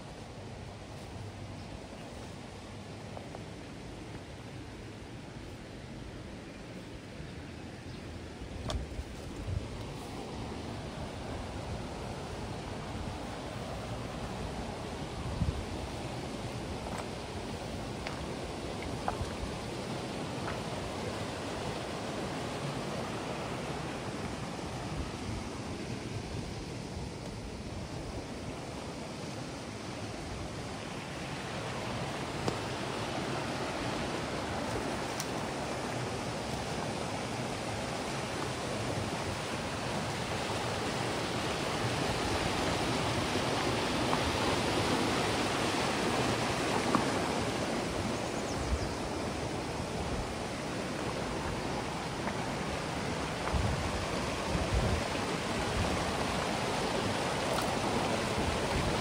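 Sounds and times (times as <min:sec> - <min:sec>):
creek water rushing: 0:00.0 - 0:59.0.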